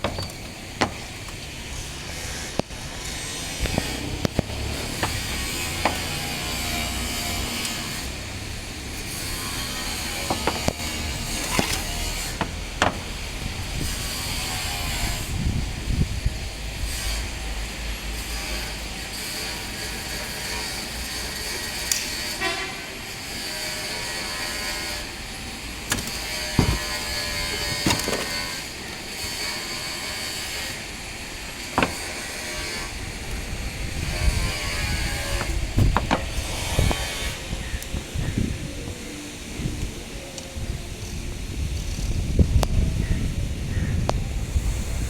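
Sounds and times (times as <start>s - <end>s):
road traffic: 0.0s - 45.0s.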